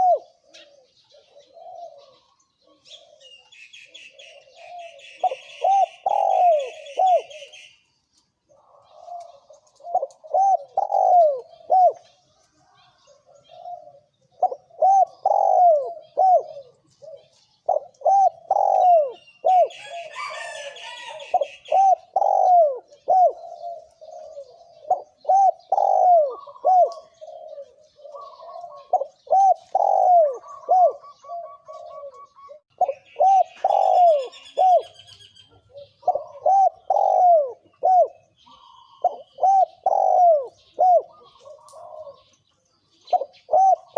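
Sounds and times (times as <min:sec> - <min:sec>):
dove cooing: 0:00.0 - 0:07.8, 0:08.5 - 0:43.9.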